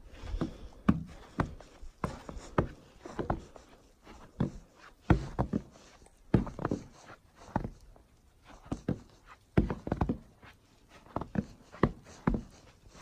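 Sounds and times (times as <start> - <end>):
footsteps on wooden planks: 0.0 - 13.0.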